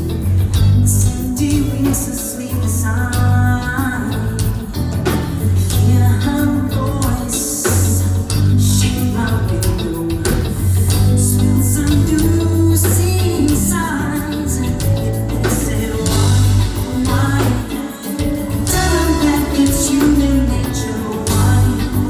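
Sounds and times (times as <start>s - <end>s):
person singing: 0.0s - 22.0s
pop music bass line and drums: 0.0s - 22.0s.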